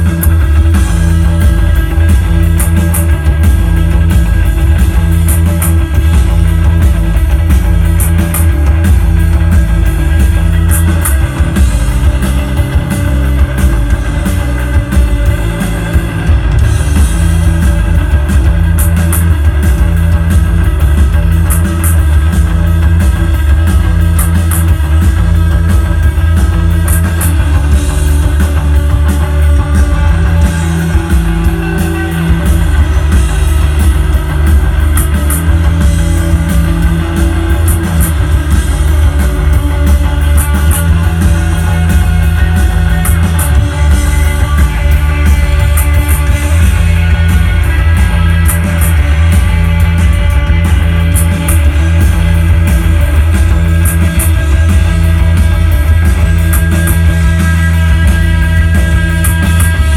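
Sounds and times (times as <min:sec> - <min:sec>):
bass: 0:00.0 - 0:59.9
drum kit: 0:00.0 - 0:59.9
electric guitars: 0:00.0 - 0:59.9.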